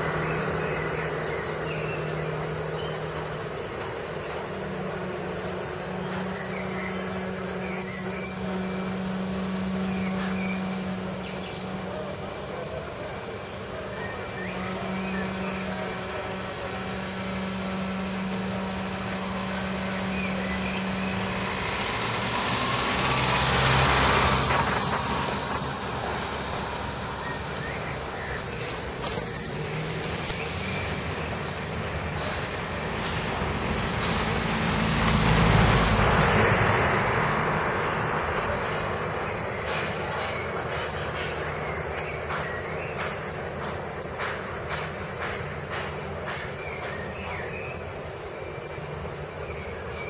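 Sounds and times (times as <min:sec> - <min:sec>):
vehicles passing: 0:00.0 - 0:50.0.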